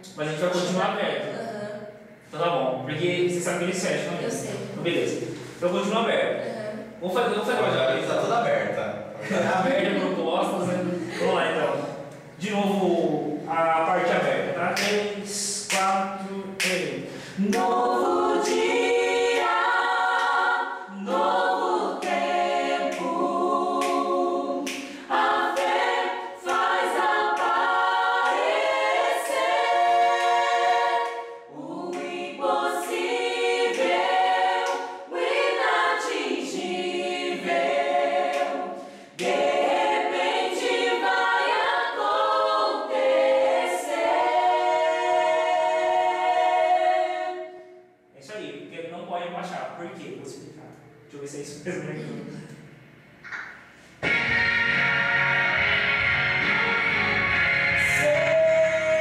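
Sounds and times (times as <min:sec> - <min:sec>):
group singing unaccompanied: 0:02.9 - 0:48.1, 0:51.9 - 0:59.0.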